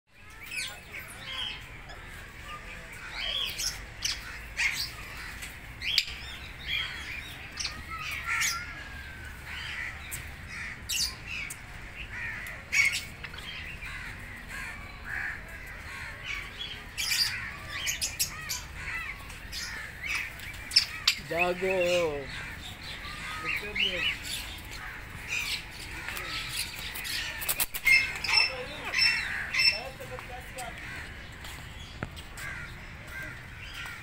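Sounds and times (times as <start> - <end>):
parrots chirping and squawking: 0.4 - 34.0.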